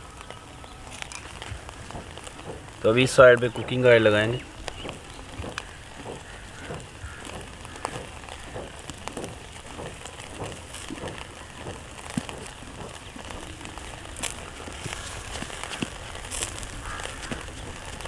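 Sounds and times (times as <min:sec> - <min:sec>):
chicken sizzling over charcoal: 0:00.0 - 0:18.0
crackles and pops from coals: 0:00.0 - 0:18.0.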